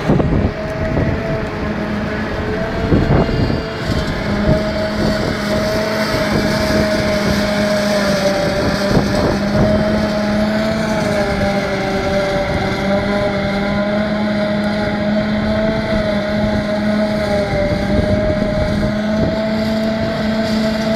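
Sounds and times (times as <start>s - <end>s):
forage harvester chopping grass: 0.0s - 20.9s
tractor engine under load: 0.0s - 20.9s.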